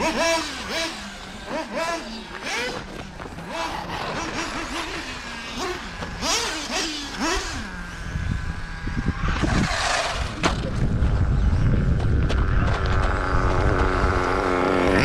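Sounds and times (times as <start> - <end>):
nitro engine revving: 0.0 - 15.0.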